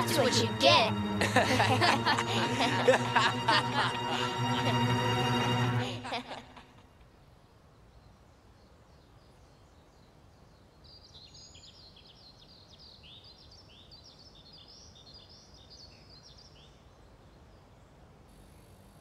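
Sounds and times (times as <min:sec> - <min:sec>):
low outdoor ambience: 0:00.0 - 0:19.0.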